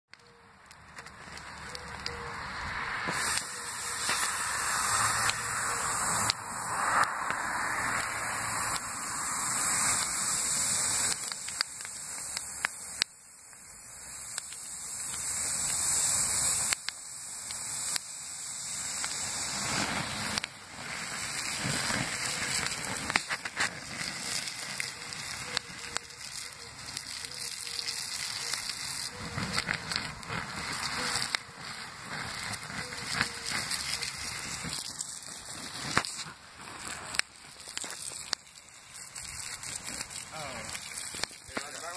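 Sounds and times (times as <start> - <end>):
embers popping: 0.1 - 41.9
hot coals hissing: 0.1 - 41.9
hose spraying water: 0.2 - 41.9.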